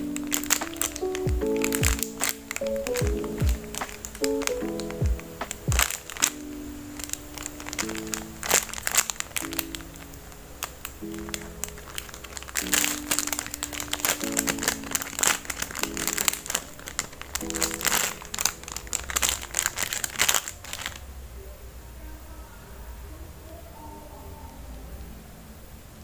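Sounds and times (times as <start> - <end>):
packaging crinkling: 0.0 - 21.0
soft background music: 0.0 - 26.0.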